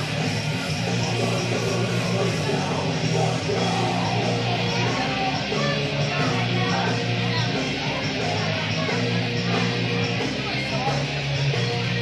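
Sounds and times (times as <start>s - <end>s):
rock music with electric guitar: 0.0s - 12.0s.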